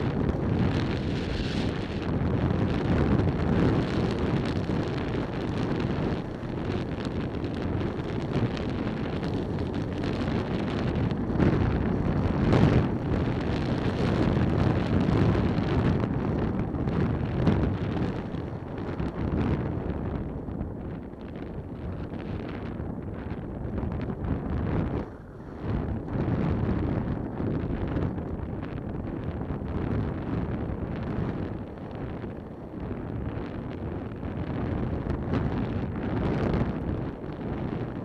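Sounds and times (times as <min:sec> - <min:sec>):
road noise: 0:00.0 - 0:38.0
wind buffeting microphone: 0:00.0 - 0:38.0.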